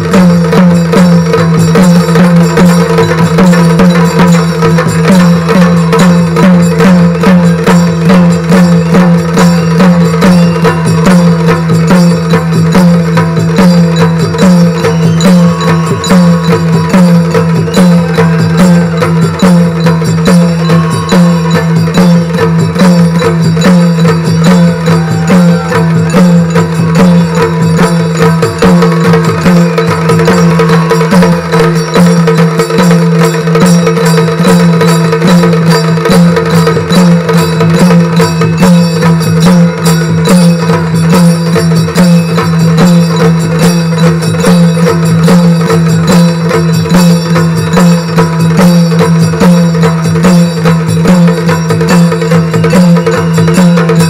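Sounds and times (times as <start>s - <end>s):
drums beaten with sticks: 0.0s - 54.0s.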